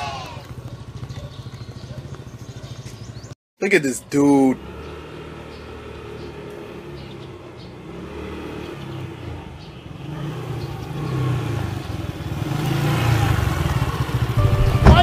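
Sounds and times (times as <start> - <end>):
motor scooter engine: 0.0 - 3.3, 4.2 - 15.0.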